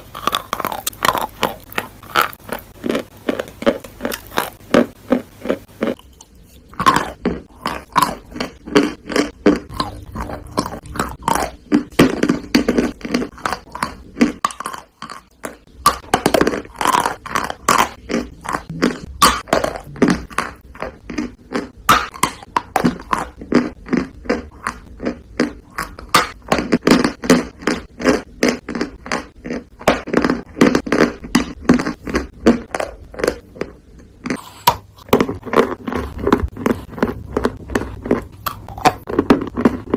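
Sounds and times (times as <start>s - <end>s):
chewing crunches: 0.0s - 39.9s.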